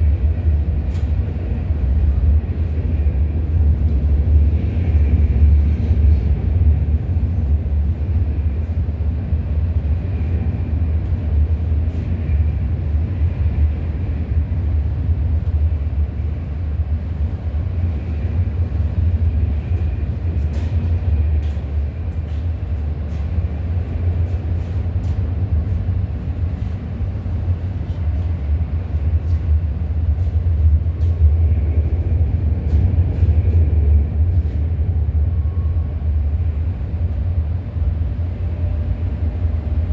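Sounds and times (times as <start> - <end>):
freight train rumbling on track: 0.0 - 39.9.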